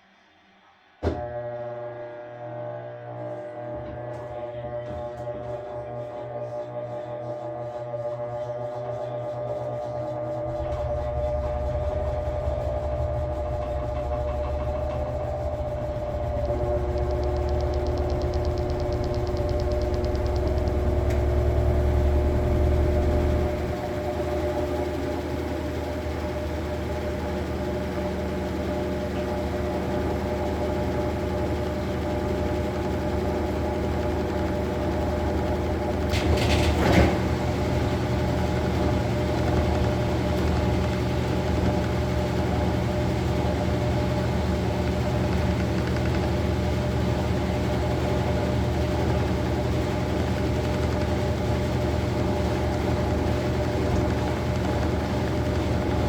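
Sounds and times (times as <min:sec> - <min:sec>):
washing machine motor hum: 0:01.0 - 0:56.0.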